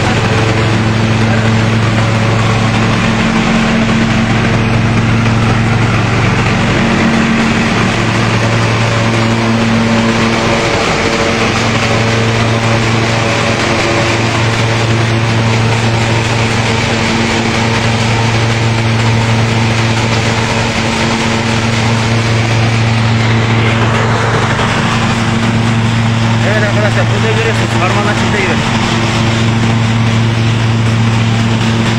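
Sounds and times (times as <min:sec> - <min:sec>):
thresher engine hum: 0:00.0 - 0:31.9
threshing drum noise: 0:00.0 - 0:31.9.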